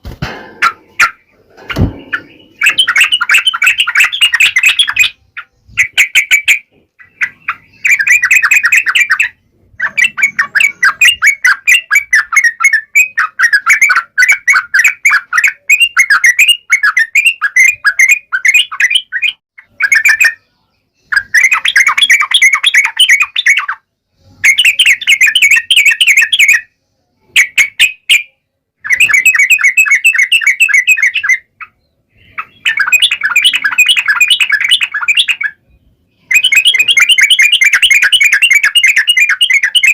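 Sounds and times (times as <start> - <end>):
bird singing chattering phrases: 0.2 - 39.9.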